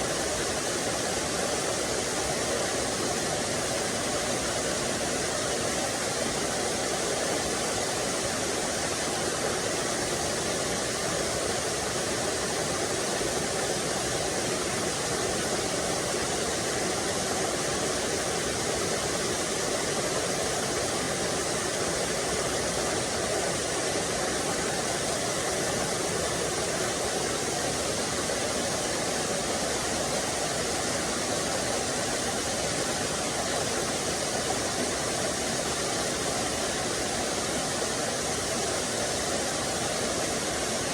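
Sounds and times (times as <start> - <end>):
waterfall splashing into stream: 0.0 - 40.9.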